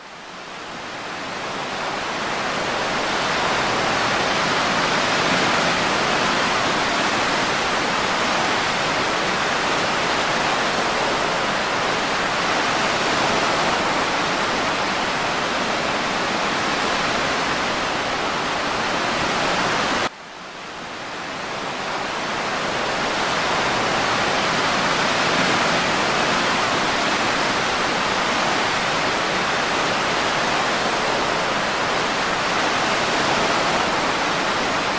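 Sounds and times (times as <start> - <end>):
ocean waves and breeze hiss: 0.0 - 34.9.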